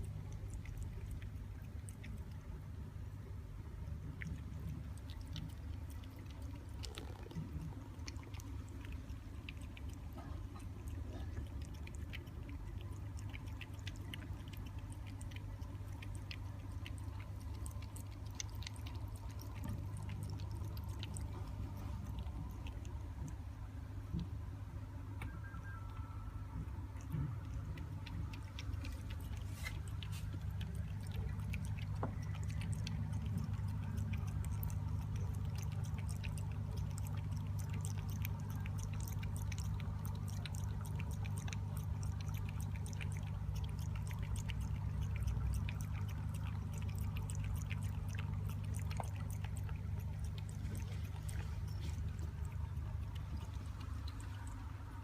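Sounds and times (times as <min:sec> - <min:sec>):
cat lapping water: 0:00.0 - 0:24.3, 0:26.6 - 0:55.0
steady low hum: 0:00.0 - 0:55.0.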